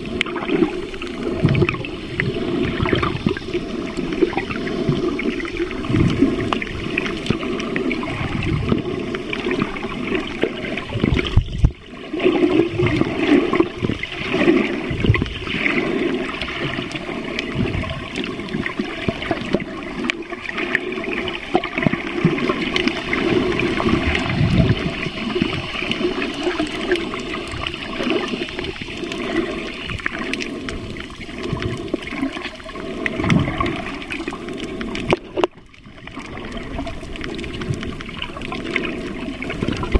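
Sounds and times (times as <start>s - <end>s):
water rushing underwater: 0.0s - 39.9s.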